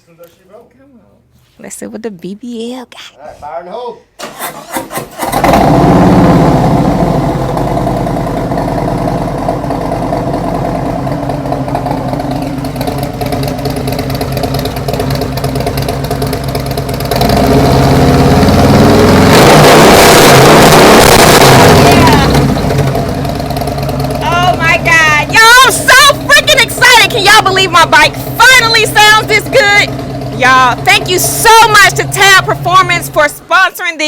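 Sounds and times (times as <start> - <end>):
motorcycle engine starting and idling: 4.2 - 19.4, 21.4 - 33.5
engine revving: 4.2 - 33.3.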